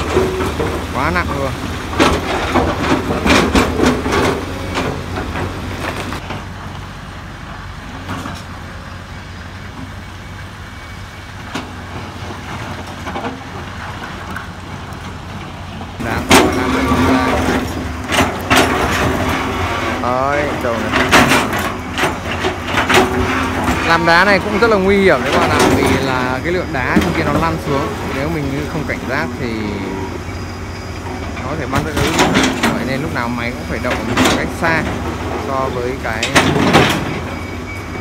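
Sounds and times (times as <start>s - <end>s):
steel bucket scraping rock: 0.0s - 6.2s, 11.8s - 38.0s
excavator engine under load: 0.0s - 38.0s
truck clanks and rattles: 0.0s - 38.0s
truck diesel engine: 0.0s - 38.0s.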